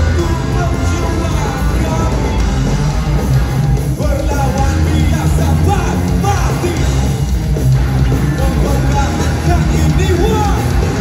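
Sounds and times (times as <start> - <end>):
live rock band playing loudly: 0.0 - 11.0.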